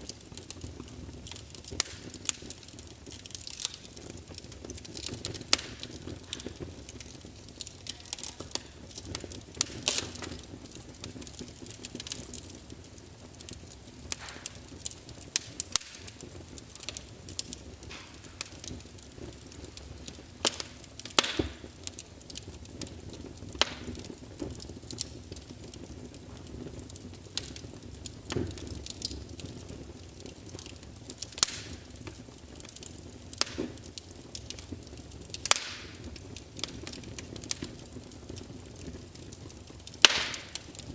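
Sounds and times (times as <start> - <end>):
low flame noise: 0.0 - 40.9
wood fire crackling: 0.0 - 40.9.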